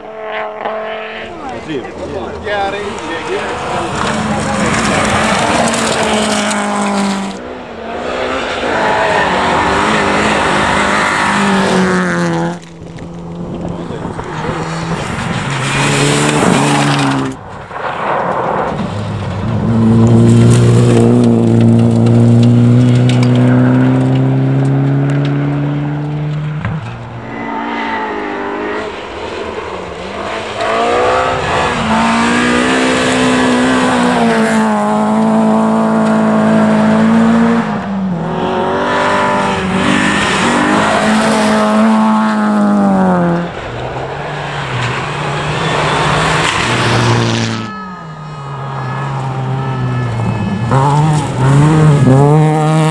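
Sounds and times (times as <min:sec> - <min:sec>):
rally car engines at high revs: 0:00.0 - 0:47.8, 0:48.8 - 0:52.9.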